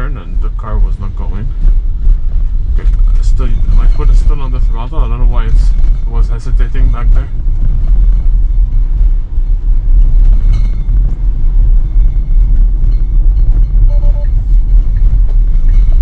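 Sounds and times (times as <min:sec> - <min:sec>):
tyre and road noise in car: 0:00.0 - 0:16.0.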